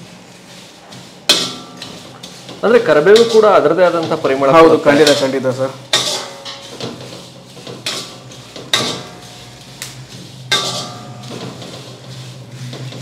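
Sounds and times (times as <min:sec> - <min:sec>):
spices frying in oil: 0:00.0 - 0:13.0
metal ladle scraping a pan: 0:00.4 - 0:13.0.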